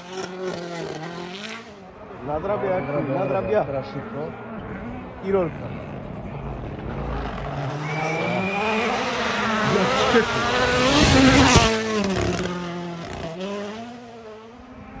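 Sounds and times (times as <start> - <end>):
rally car passing at speed: 0.0 - 15.0.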